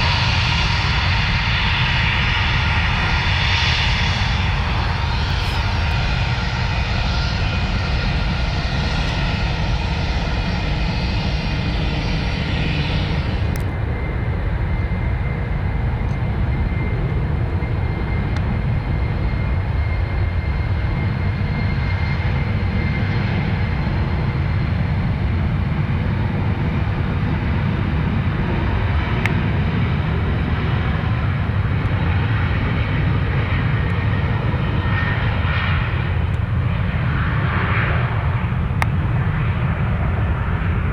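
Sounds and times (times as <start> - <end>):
airliner engines rumbling: 0.0 - 40.9.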